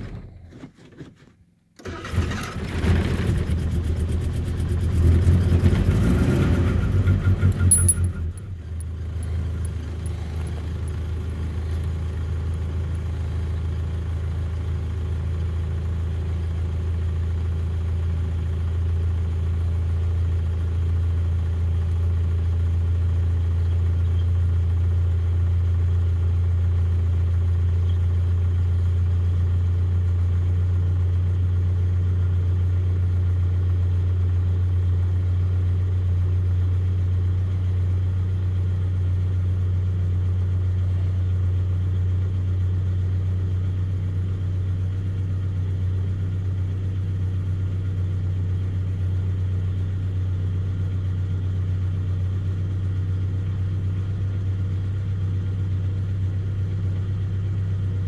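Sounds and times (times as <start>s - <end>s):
vehicle engine idling: 3.4s - 58.0s.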